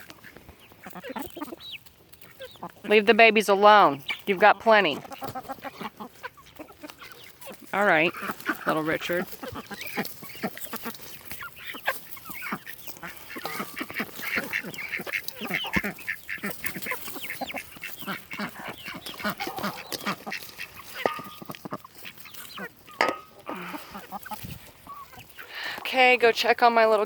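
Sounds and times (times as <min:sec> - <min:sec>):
chickens calling: 0:00.0 - 0:27.0
ducks quacking: 0:00.0 - 0:27.0.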